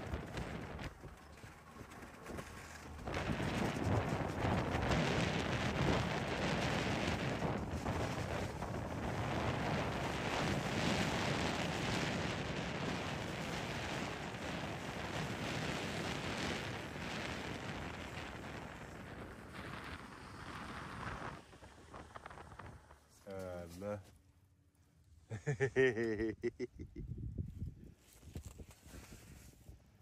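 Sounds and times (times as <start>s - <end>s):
wind blowing across microphone: 0.0s - 23.1s, 26.1s - 30.0s.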